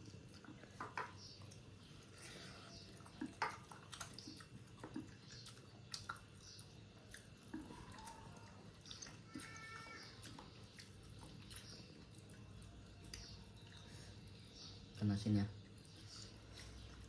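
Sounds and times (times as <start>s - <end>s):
chewing: 0.0s - 15.0s, 15.6s - 17.0s.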